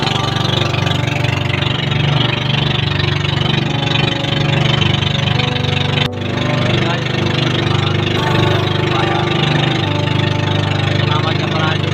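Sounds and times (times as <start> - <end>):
boat engine running: 0.0 - 11.9.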